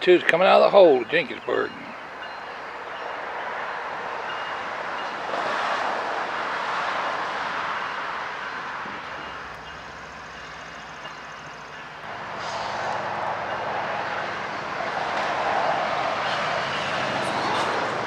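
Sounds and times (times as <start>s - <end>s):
diesel locomotive engine roar: 0.0s - 18.0s.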